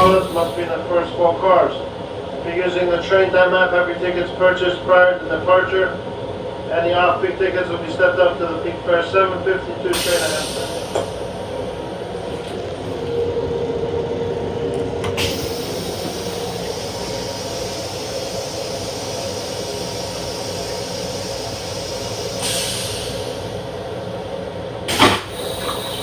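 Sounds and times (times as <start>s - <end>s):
electric railcar hum and rumble: 0.0s - 26.0s.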